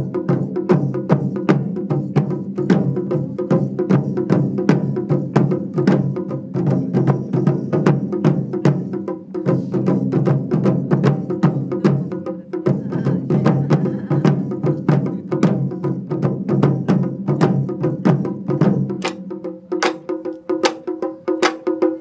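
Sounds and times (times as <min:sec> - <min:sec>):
sharp clicking drum strokes: 0:00.0 - 0:22.0
taiko drums in fast rhythm: 0:00.0 - 0:22.0.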